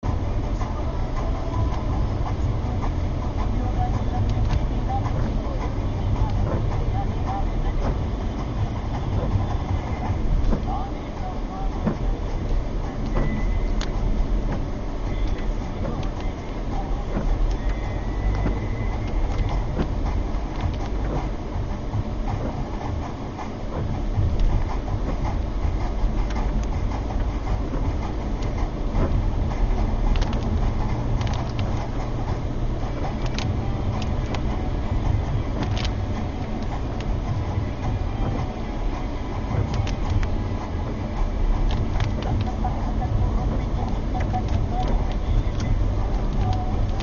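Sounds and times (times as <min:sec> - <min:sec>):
road and engine rumble: 0:00.0 - 0:47.0
sharp ticks: 0:00.5 - 0:47.0.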